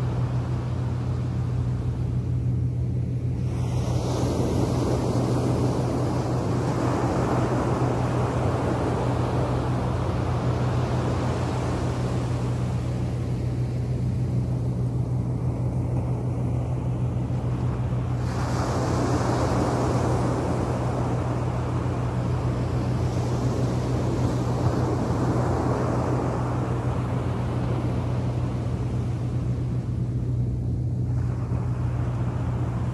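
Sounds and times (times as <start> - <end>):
low hum: 0.0 - 32.9
waves breaking on sandy shore: 0.0 - 32.9.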